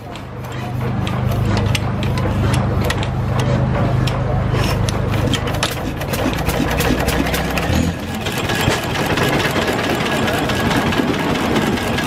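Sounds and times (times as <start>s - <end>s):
stationary engine clattering: 0.0s - 12.0s.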